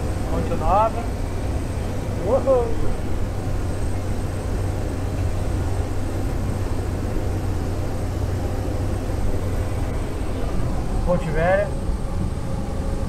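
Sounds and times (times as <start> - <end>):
air rushing in cabin: 0.0 - 13.0
plane engine and propeller drone: 0.0 - 13.0.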